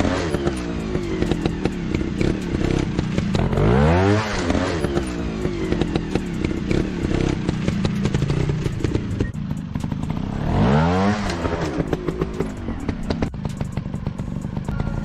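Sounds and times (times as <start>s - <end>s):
engine clattering and knocking: 0.0s - 15.0s
motorcycle engine revving: 0.0s - 15.0s.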